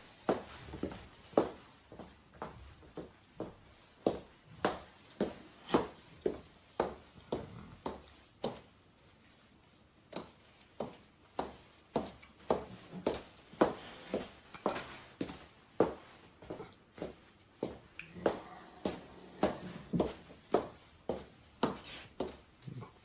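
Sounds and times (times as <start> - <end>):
footsteps on hard floor: 0.2 - 8.7, 10.1 - 22.6.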